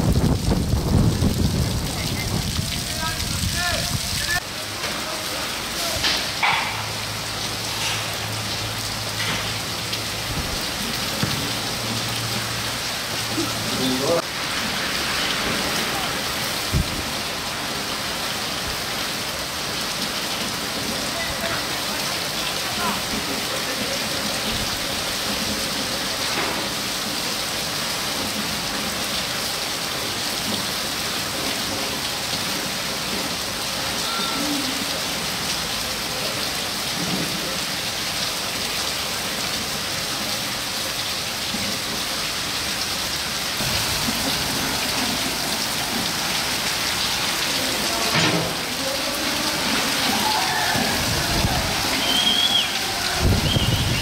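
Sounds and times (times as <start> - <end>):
heavy rain on grass: 0.0 - 54.0.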